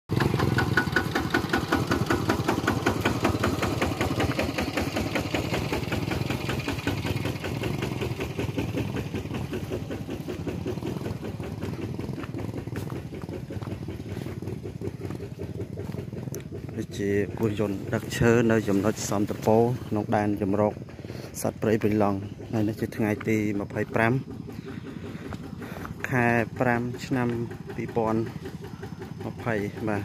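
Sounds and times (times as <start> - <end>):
diesel tractor engine chugging: 0.1 - 30.0.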